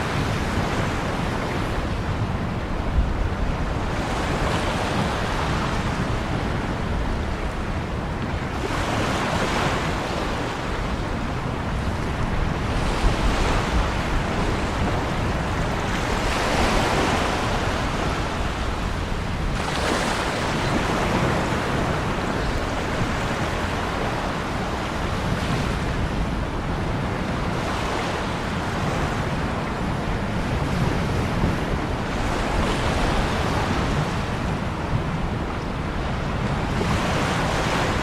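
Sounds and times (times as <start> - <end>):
waves breaking on shore: 0.0 - 38.0.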